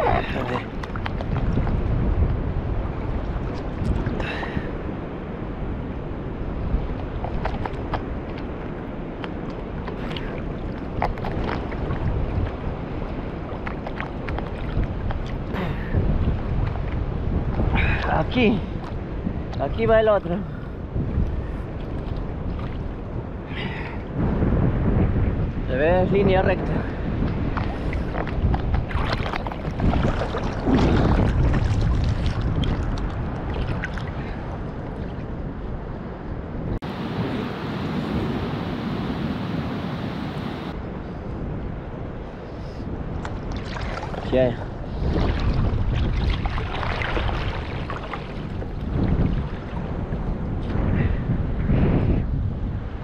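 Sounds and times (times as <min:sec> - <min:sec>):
water splashing and sloshing: 0:00.0 - 0:38.2, 0:40.7 - 0:51.6
wind rumbling on microphone: 0:00.0 - 0:53.0.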